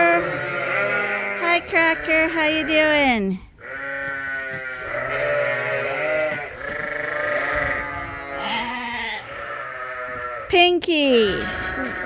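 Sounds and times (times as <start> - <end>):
lambs bleating: 0.0 - 10.6.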